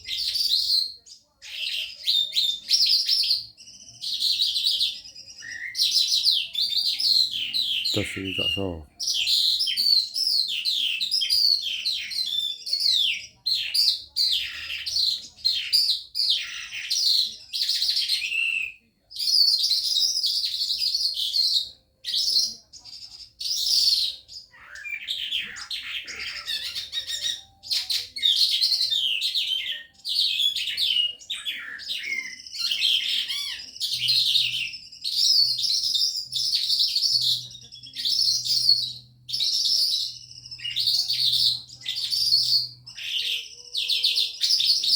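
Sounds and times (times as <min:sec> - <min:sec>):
lark singing: 0:00.0 - 0:17.0, 0:17.8 - 0:44.9.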